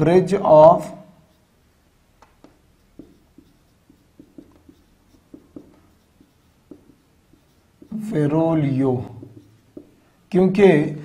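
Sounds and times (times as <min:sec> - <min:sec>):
marker scratching on whiteboard: 0:00.2 - 0:10.7.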